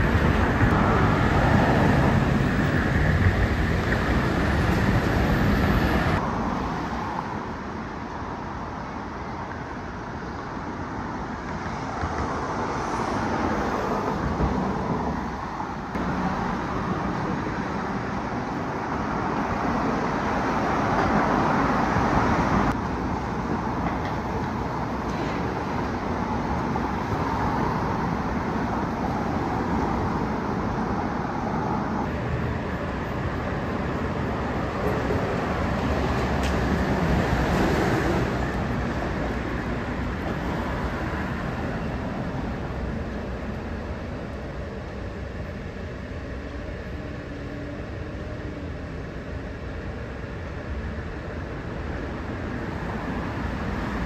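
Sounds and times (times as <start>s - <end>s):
busy road traffic rumble: 0.0s - 54.0s.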